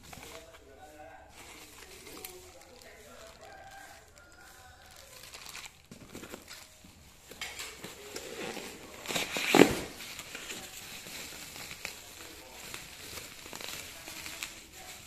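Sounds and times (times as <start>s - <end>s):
styrofoam crinkling and scraping: 0.0s - 15.0s.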